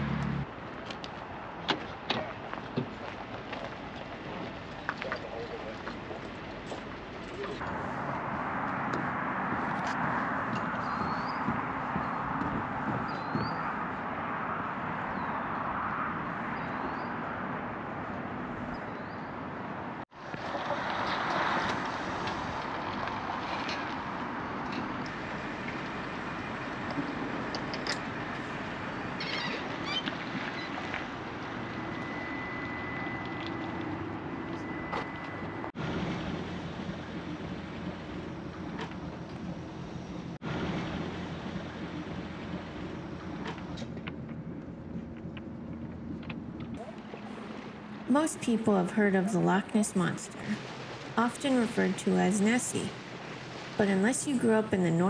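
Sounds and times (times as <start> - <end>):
choppy water: 0.4 - 55.0.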